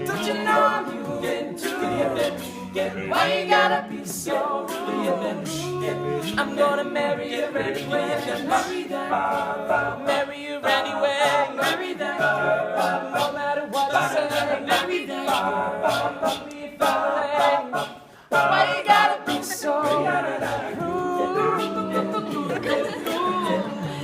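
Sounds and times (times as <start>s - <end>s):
male a cappella group singing: 0.0s - 24.0s
vocal percussion beat: 0.0s - 24.0s.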